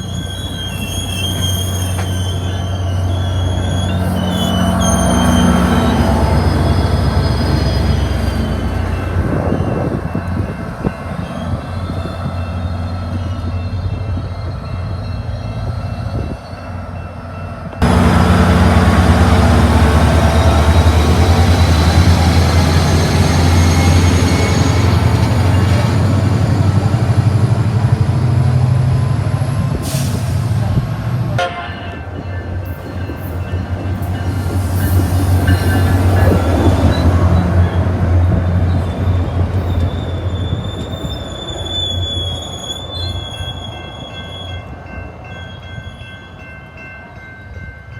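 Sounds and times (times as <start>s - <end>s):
rail and wheel noise: 0.0s - 47.9s
train engine rumble: 0.0s - 47.9s.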